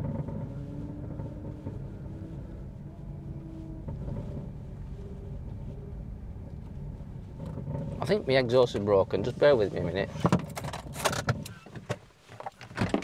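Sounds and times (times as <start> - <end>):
car engine deep rumble: 0.0 - 11.6.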